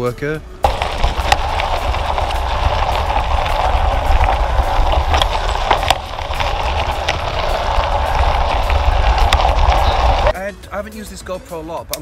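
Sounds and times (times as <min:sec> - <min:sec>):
sharp clicks and rattles: 0:00.6 - 0:10.3
tyres crunching on gravel: 0:00.6 - 0:10.3
wind buffeting microphone: 0:00.6 - 0:10.3.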